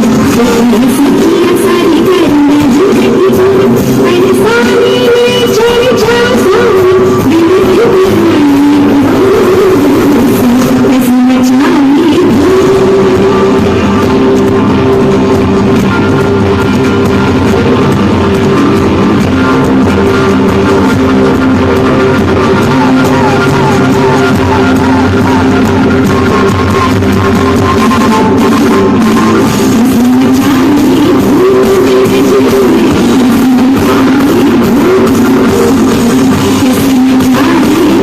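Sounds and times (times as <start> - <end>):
live rock band music: 0.0 - 38.0.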